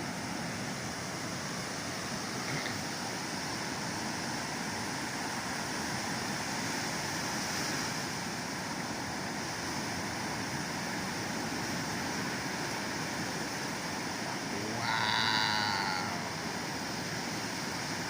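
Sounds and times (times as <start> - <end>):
ocean surf: 0.0 - 18.0.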